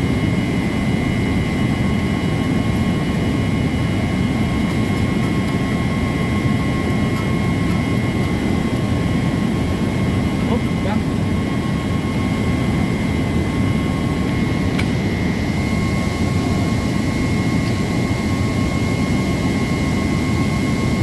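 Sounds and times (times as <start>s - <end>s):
machinery drone with high whine: 0.0s - 21.0s.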